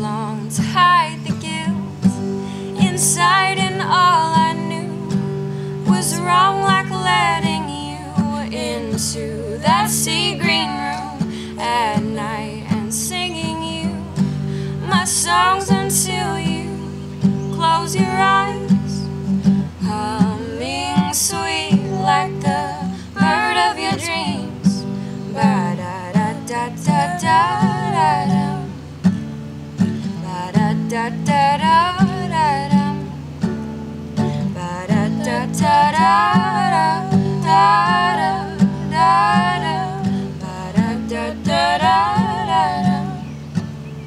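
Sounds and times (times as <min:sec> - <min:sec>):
woman singing: 0:00.0 - 0:19.2, 0:19.8 - 0:29.0, 0:30.0 - 0:33.2, 0:34.2 - 0:43.4
acoustic guitar strumming: 0:00.0 - 0:44.0.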